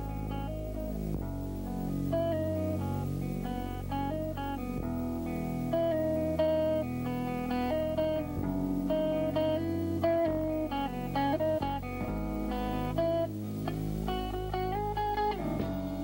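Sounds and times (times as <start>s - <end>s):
guitar picking melody: 0.0s - 16.0s
low held bass notes: 0.0s - 16.0s.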